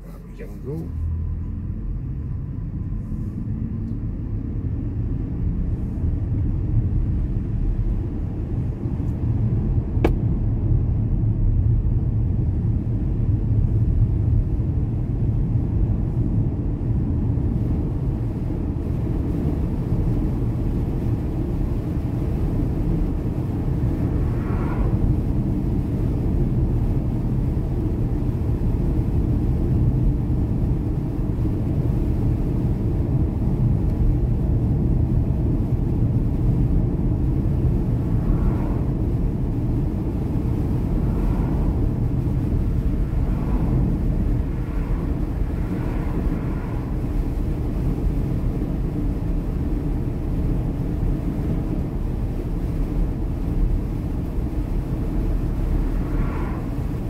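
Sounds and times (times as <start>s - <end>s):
road and wind noise in car: 0.0s - 57.0s.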